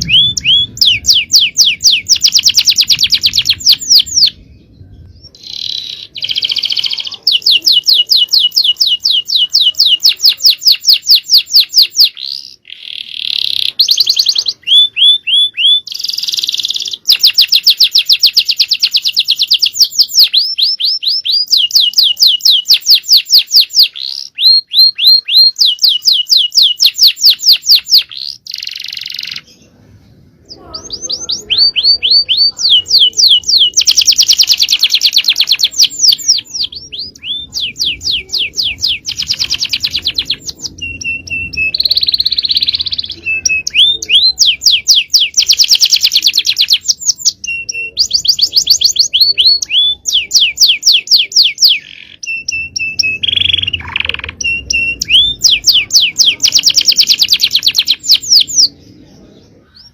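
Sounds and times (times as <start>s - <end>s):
canary singing: 0.0s - 29.8s, 30.4s - 59.9s.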